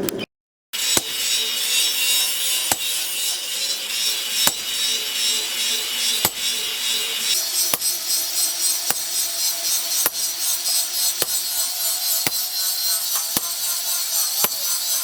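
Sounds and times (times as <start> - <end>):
tool scraping material: 0.8 - 15.0.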